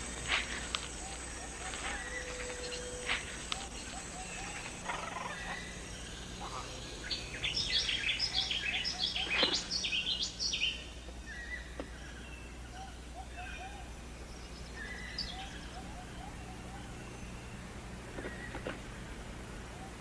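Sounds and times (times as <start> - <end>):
bird calls: 0.0 - 20.0
steady high hiss: 0.0 - 20.0.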